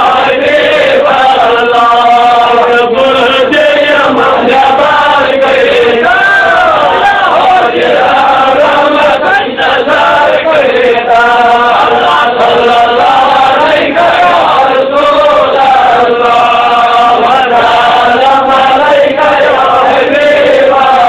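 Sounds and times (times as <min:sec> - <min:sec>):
men chanting a devotional melody: 0:00.0 - 0:21.0.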